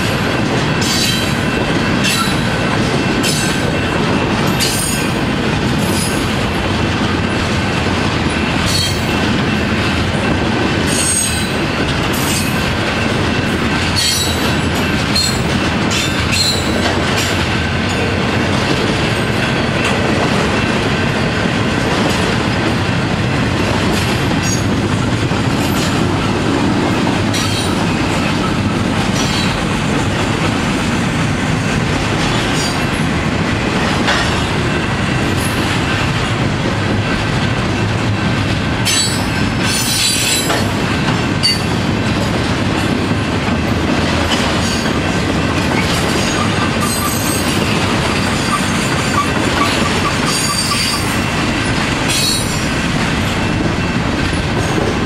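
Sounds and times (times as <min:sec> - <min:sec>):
freight train wheels rumbling on rail: 0:00.0 - 0:55.0.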